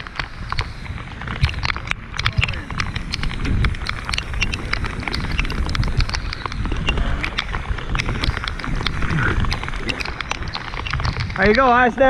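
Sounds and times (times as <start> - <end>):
low rumble: 0.0 - 12.0
rain drops tapping: 0.0 - 12.0.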